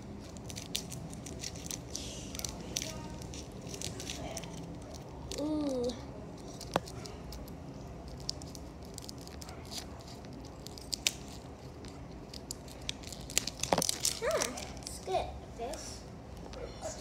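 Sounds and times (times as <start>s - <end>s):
plastic wrapping crinkling: 0.1s - 15.0s.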